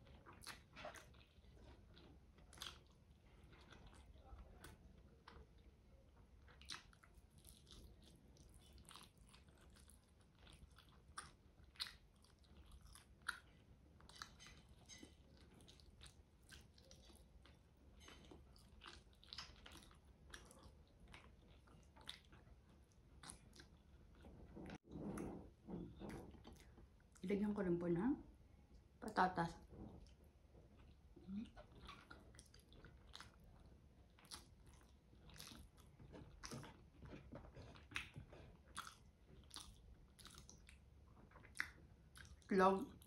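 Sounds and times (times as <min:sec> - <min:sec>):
person chewing food: 0:00.0 - 0:27.2, 0:29.7 - 0:43.0.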